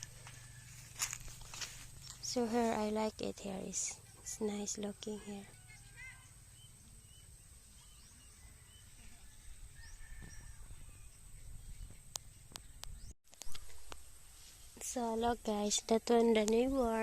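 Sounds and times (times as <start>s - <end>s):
distant bird chirps: 0.0s - 14.1s.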